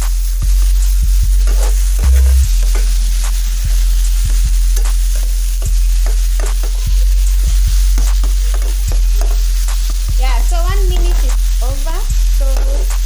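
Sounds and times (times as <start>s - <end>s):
steady low hum: 0.0s - 13.0s
vegetables sizzling in a pan: 0.0s - 13.0s
spatula scraping a pan: 1.2s - 13.0s.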